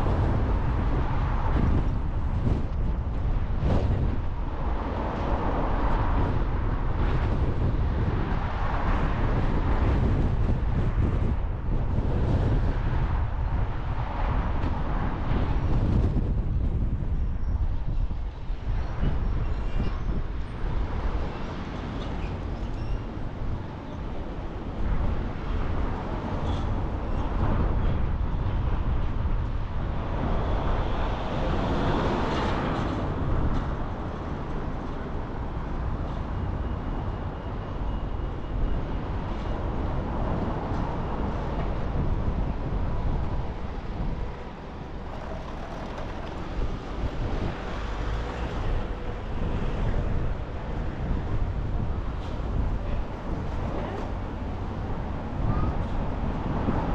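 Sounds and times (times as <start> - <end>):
wind: 0.0 - 56.9.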